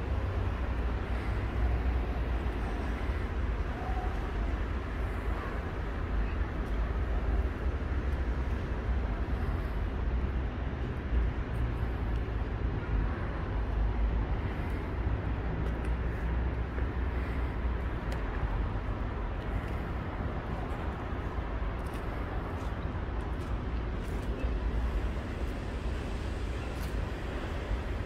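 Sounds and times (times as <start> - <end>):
city traffic noise: 0.0 - 28.0.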